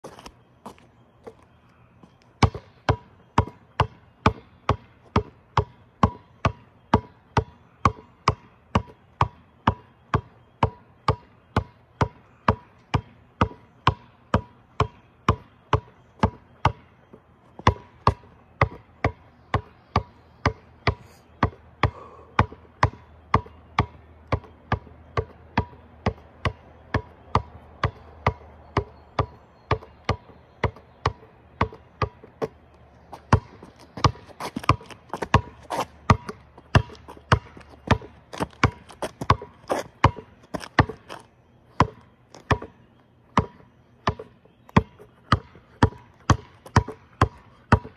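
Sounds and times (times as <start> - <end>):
basketball bouncing: 2.4 - 16.9, 17.6 - 41.2, 41.8 - 47.9.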